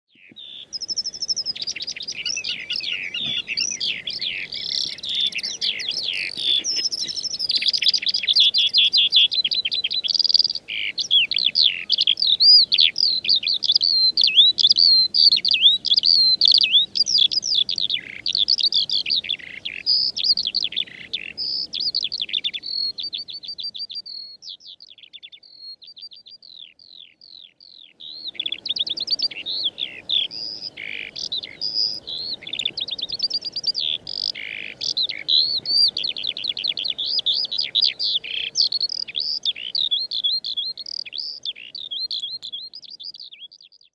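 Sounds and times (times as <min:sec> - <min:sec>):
skylark singing: 0:00.1 - 0:43.9.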